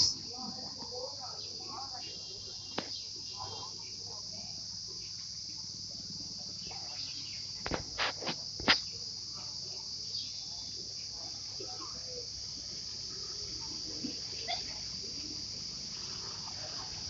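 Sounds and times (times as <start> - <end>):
insects droning in trees: 0.0 - 17.0.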